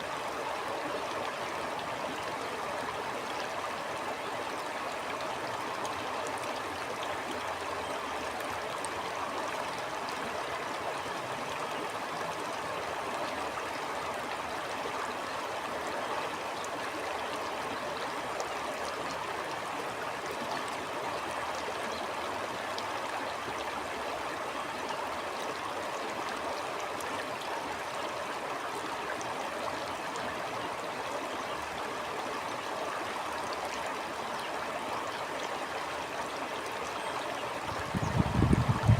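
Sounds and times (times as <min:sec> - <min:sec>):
stream gurgling and trickling: 0:00.0 - 0:38.9.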